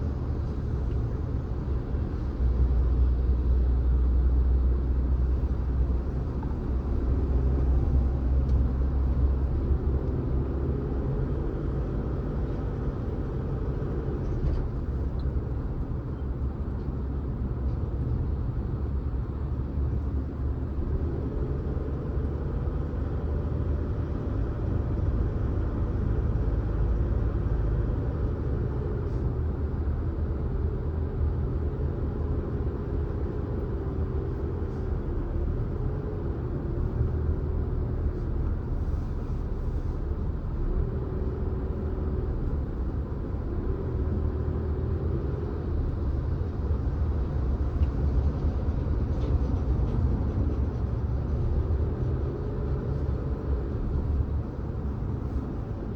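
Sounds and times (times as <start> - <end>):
car driving on road: 0.0 - 55.9.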